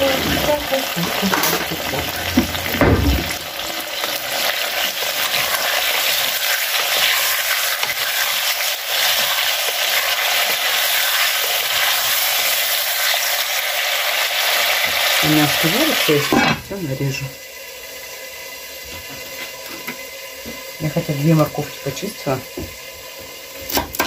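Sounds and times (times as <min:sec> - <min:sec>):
chicken frying in hot oil: 0:00.0 - 0:24.0.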